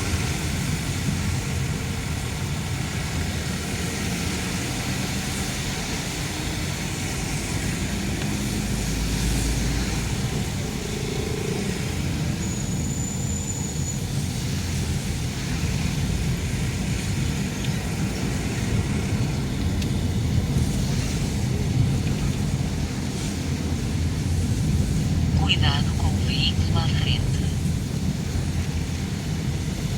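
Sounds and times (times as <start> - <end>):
tyres hissing on wet road: 0.0 - 25.4, 27.7 - 29.9.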